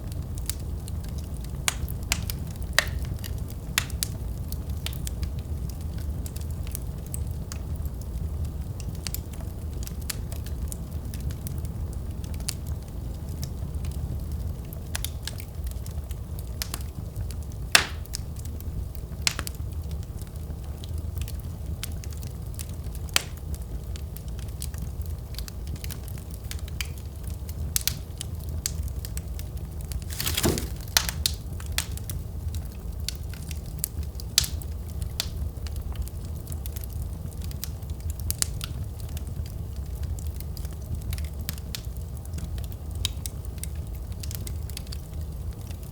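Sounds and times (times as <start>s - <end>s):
low rumble of flames: 0.0s - 45.9s
wood fire popping: 0.0s - 45.9s.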